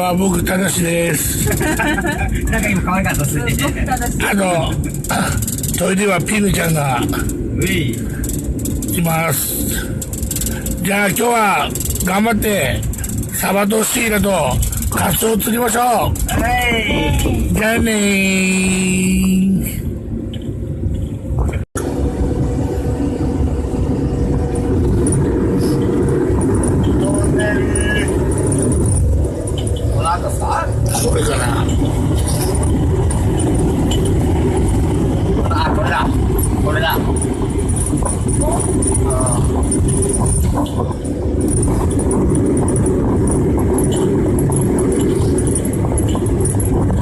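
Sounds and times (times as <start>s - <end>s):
light metallic jingling rattle: 0.0s - 17.8s, 24.5s - 47.0s
car engine and road rumble: 0.0s - 47.0s.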